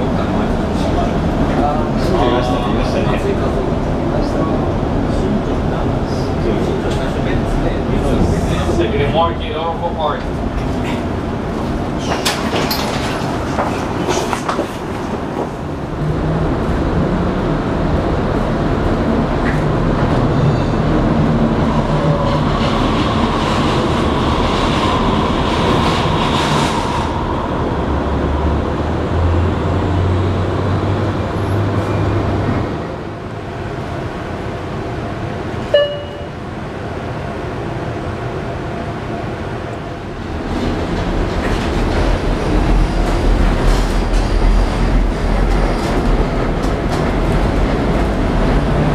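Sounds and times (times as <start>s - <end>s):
light-rail train passing: 0.0s - 48.9s
streetcar rolling on rails: 0.0s - 48.9s.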